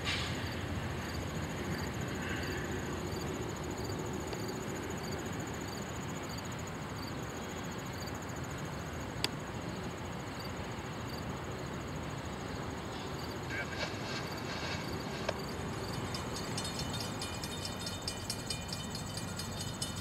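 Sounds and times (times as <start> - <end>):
insects chirping: 0.0 - 20.0
low rumble of trains: 0.0 - 20.0.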